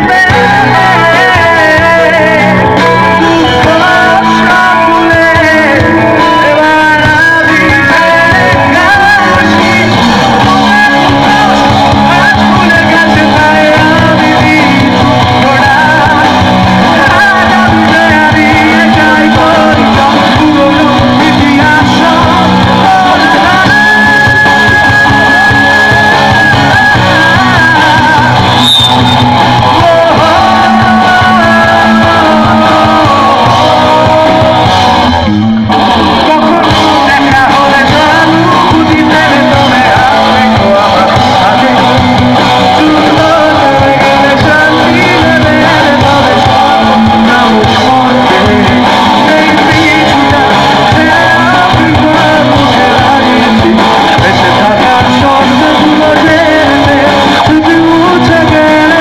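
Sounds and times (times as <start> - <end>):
bass guitar: 0.0 - 59.0
drums: 0.0 - 59.0
electric guitar: 0.0 - 59.0
person singing: 0.0 - 59.0.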